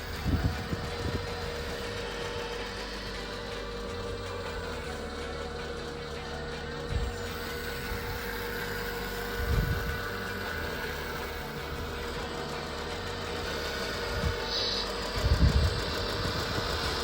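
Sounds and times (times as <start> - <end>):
hydraulic pump whine: 0.0 - 17.0.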